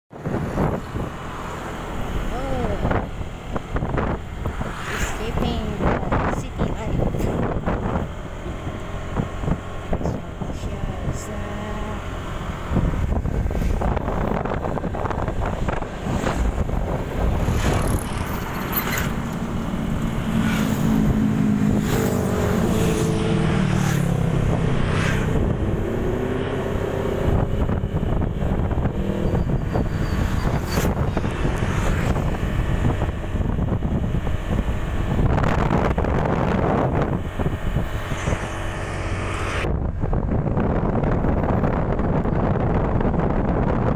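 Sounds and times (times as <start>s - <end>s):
wind buffeting microphone: 0.1s - 43.9s
motorcycle engine running: 0.4s - 43.0s.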